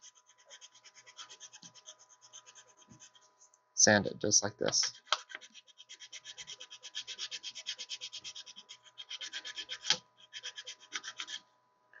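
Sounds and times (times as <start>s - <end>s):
sandpaper rasping on metal: 0.0s - 3.3s, 4.8s - 11.4s.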